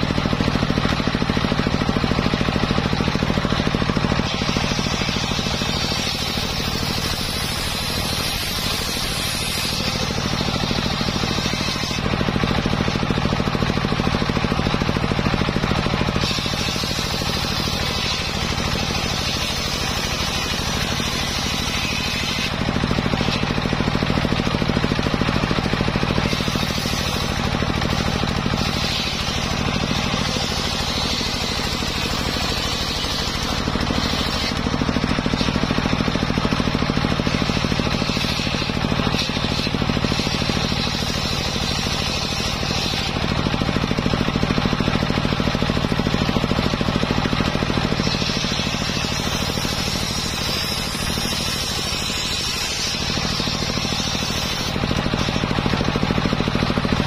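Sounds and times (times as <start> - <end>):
circular saw running: 0.0 - 57.0
saw blade cutting wood: 0.0 - 57.0.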